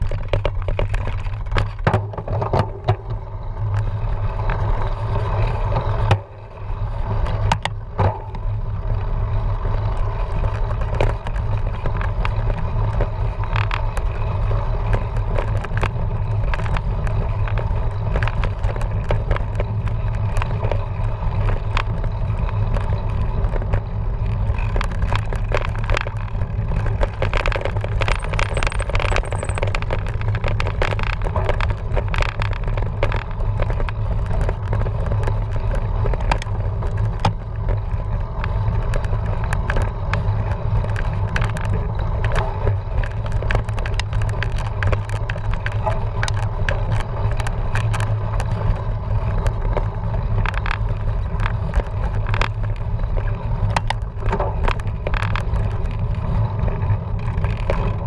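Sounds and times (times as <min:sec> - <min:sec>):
bike clicking and rattling: 0:00.0 - 0:58.0
bike tyres on rough ground: 0:00.0 - 0:58.0
wind rumble: 0:00.0 - 0:58.0.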